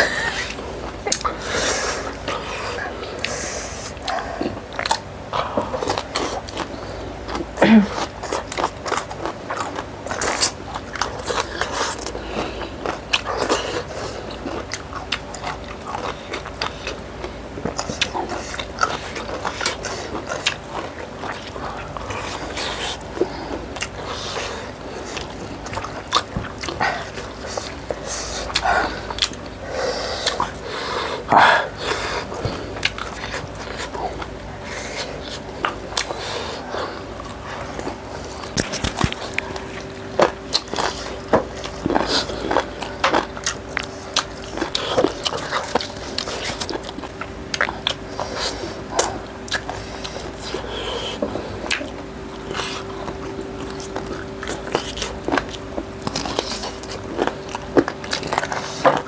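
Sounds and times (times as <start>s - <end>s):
people chewing chicken: 0.0s - 59.0s.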